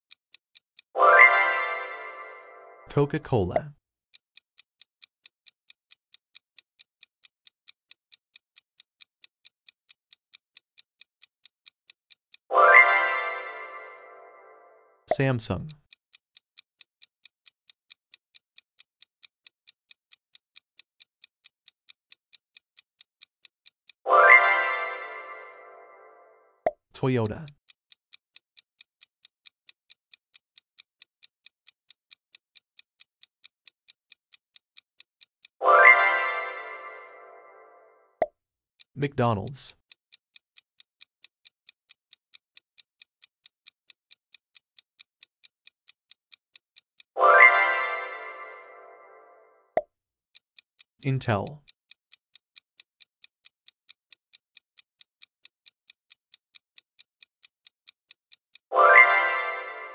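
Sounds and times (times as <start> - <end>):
faint clock ticks: 0.0 - 59.9.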